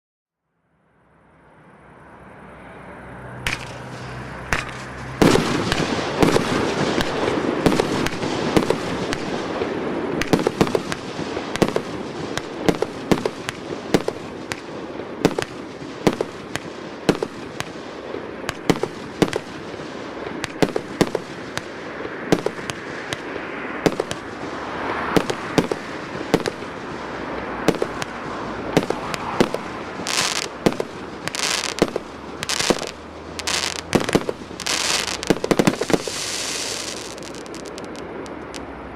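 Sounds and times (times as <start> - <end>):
fireworks shots firing: 3.5 - 38.7
fireworks hiss and crackle: 3.5 - 38.9.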